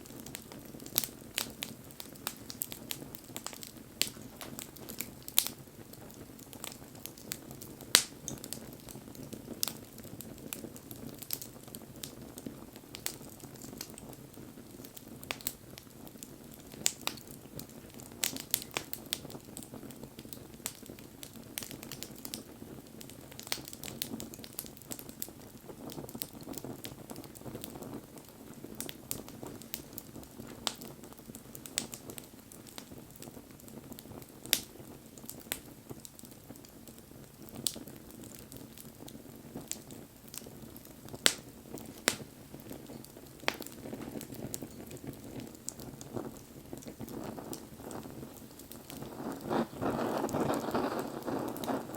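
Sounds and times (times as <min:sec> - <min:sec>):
bonfire crackling and popping: 0:00.0 - 0:51.9
low rush of flame: 0:00.0 - 0:51.9.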